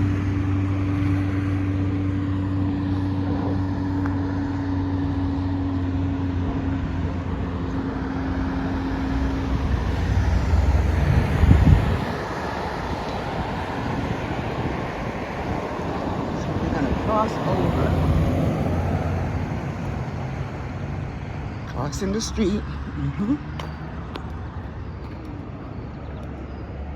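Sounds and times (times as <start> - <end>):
vehicle engine humming: 0.0 - 26.9
vehicle passing by: 0.0 - 26.9.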